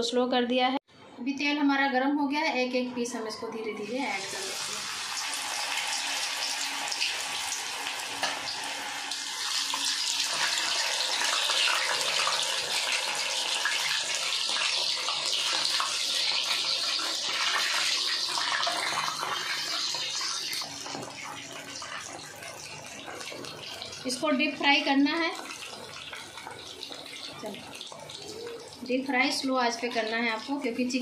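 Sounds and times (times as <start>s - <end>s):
food deep-frying in oil: 3.8s - 31.0s.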